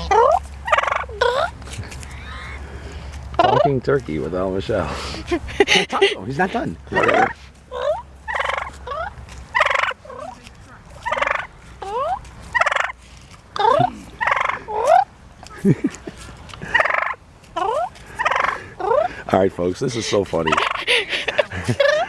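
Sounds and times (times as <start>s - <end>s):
turkeys gobbling: 0.0s - 3.8s, 5.0s - 22.0s.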